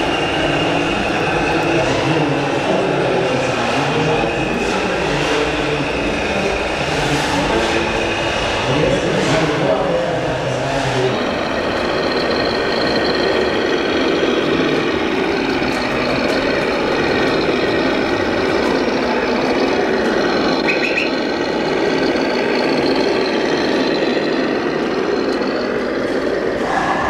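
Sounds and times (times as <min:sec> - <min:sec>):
simulated diesel truck engine: 0:00.0 - 0:27.0.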